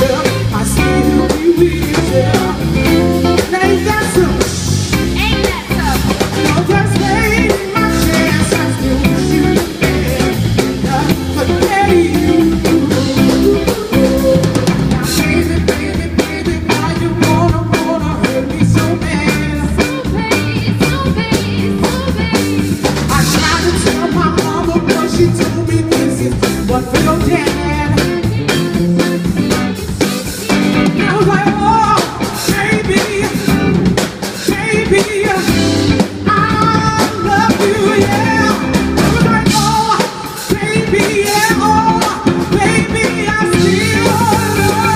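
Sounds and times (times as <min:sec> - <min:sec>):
drum kit beat: 0:00.0 - 0:44.9
electric guitar and bass: 0:00.0 - 0:44.9.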